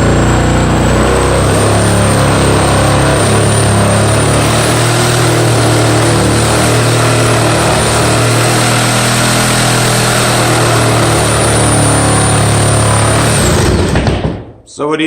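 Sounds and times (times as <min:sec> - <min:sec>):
reciprocating saw cutting: 0:00.0 - 0:14.1.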